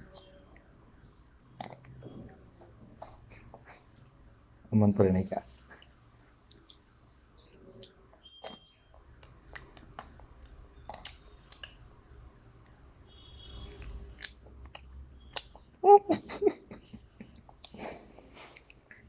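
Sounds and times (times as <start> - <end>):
biscuits being chewed: 0.0 - 4.4, 5.8 - 7.0, 7.6 - 15.8, 16.7 - 19.0.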